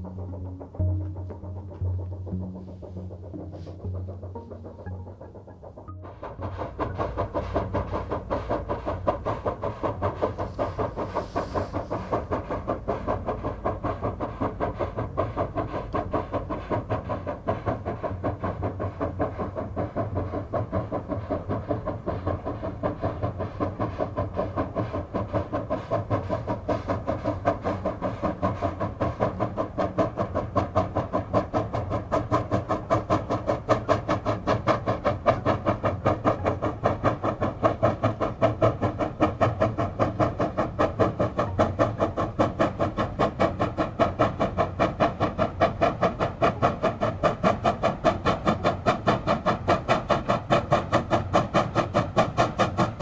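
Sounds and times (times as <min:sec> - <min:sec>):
steam locomotive chuffing: 0:00.0 - 0:53.0.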